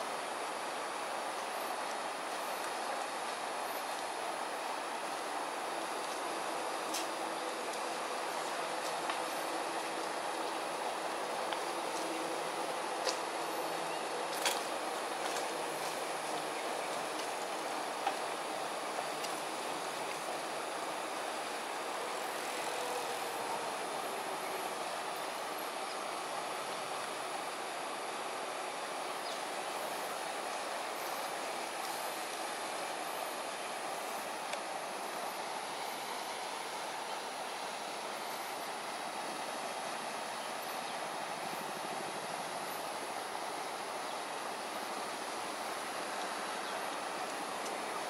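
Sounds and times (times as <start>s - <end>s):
faint high hiss: 0.0s - 48.0s
outdoor background rush: 0.0s - 48.0s.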